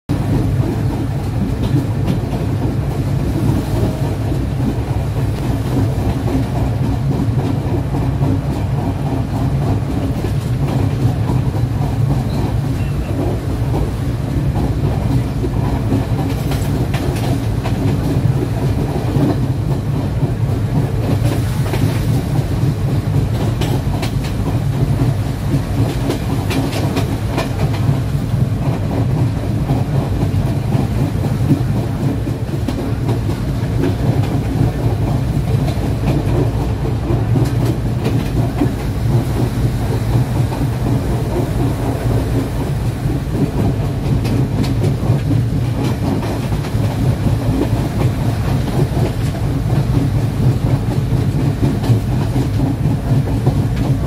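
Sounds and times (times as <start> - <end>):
train wheels rumbling on rail: 0.1 - 54.0
wheels clicking over rail joints: 0.1 - 54.0.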